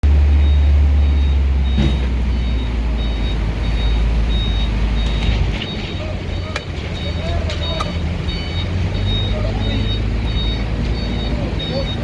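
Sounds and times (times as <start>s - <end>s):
heavy vehicle engine rumbling: 0.0s - 12.0s
reversing alarm beeps: 0.4s - 12.0s.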